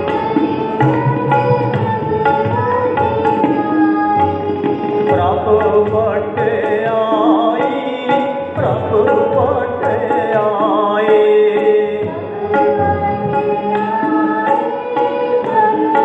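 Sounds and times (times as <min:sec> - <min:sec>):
tabla: 0:00.0 - 0:16.0.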